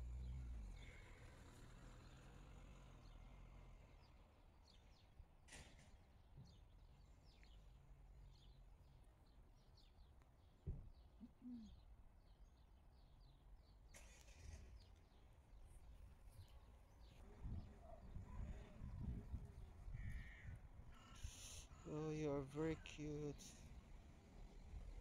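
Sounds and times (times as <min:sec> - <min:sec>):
small birds chirping: 0:00.2 - 0:02.4, 0:03.0 - 0:05.3, 0:06.1 - 0:25.0.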